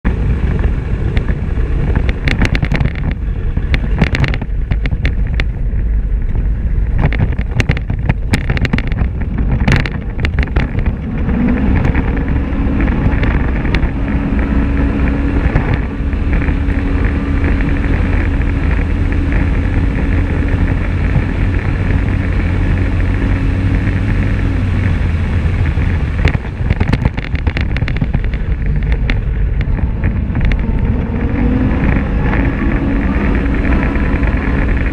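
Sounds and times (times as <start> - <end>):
off-road vehicle engine: 0.0 - 34.9
wind on microphone: 0.0 - 34.9
rattles and clatters on gravel track: 0.1 - 34.9.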